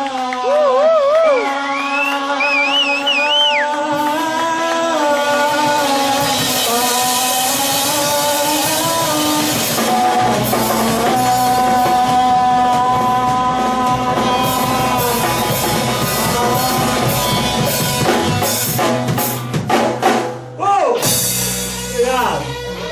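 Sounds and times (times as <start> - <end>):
psychedelic rock band: 1.4 - 22.9.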